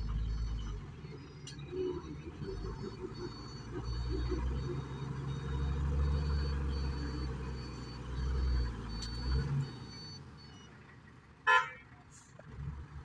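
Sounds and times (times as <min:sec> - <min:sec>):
reversing alarm beeping: 0:00.0 - 0:10.8
heavy machine engine rumbling: 0:00.0 - 0:11.4.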